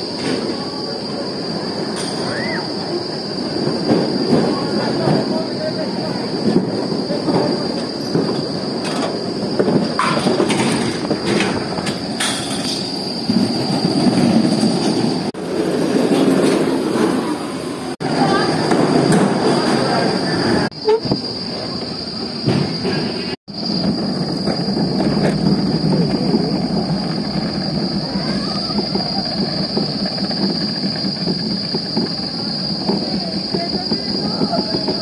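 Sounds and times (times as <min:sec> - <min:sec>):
wheels rumbling on concrete: 0:00.0 - 0:35.0.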